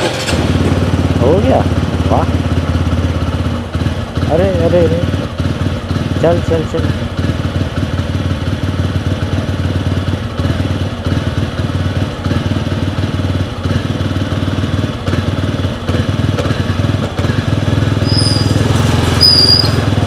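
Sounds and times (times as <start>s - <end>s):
motorcycle engine idling unevenly: 0.0s - 20.0s.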